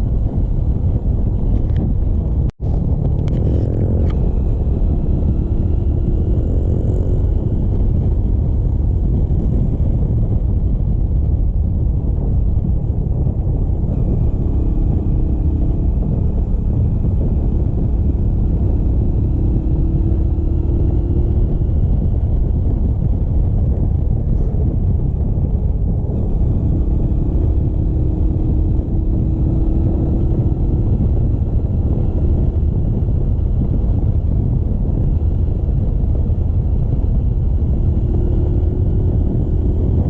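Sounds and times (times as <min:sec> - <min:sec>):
motorcycle engine running: 0:00.0 - 0:40.0
wind rumble on microphone: 0:00.0 - 0:40.0.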